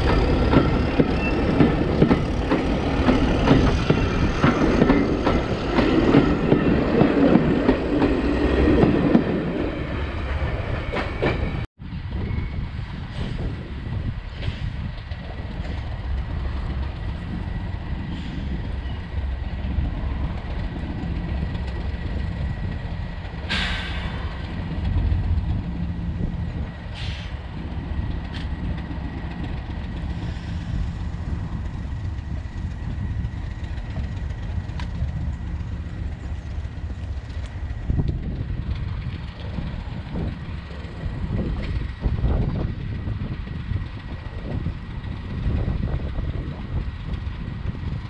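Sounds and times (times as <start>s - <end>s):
train rumbling: 0.0s - 48.0s.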